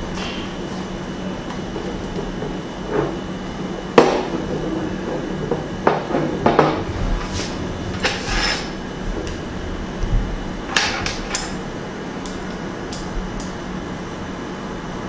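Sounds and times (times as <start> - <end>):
background hiss and low hum: 0.0 - 15.0.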